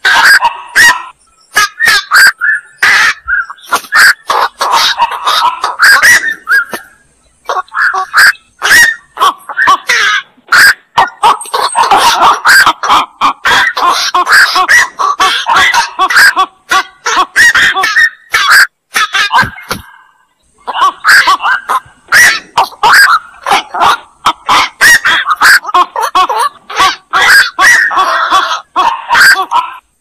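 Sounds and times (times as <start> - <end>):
herons calling: 0.0 - 30.0.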